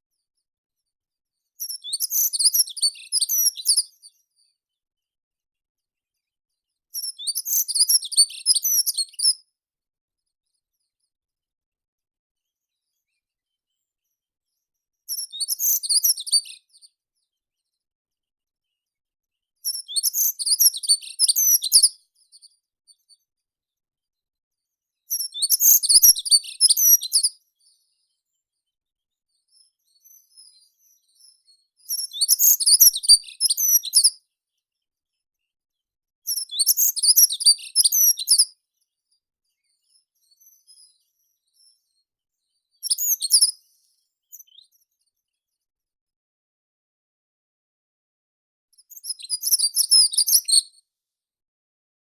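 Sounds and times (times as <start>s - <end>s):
faint bird chirps: 0.1s - 5.0s, 6.0s - 9.5s, 12.4s - 17.9s, 18.6s - 23.8s, 24.6s - 45.7s, 48.8s - 50.7s.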